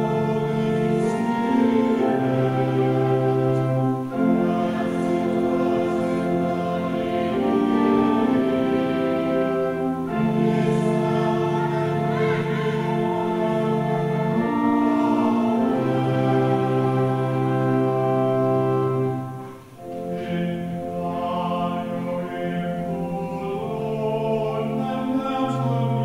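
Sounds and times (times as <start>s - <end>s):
choir and congregation singing: 0.0s - 26.0s
organ accompaniment: 0.0s - 26.0s.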